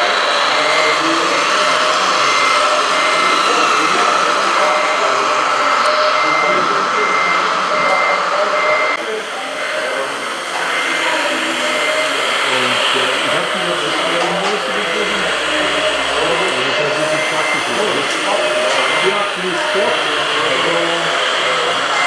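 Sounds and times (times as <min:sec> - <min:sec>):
people chattering: 0:00.0 - 0:22.0
reversing beeper beeps: 0:00.0 - 0:22.0
small electric motor whining: 0:00.0 - 0:22.0.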